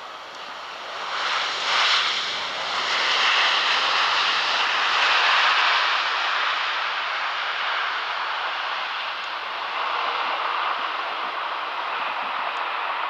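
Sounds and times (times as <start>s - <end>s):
jet engines reverse thrust roar: 0.0s - 13.0s.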